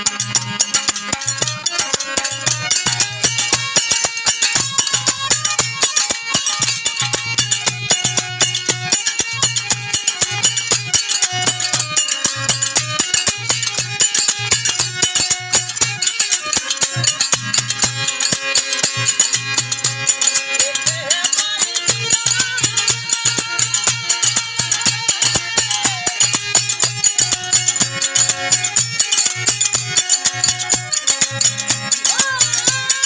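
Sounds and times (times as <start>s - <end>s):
fast rattling percussion: 0.0s - 33.0s
harmonium playing held notes: 0.0s - 33.0s.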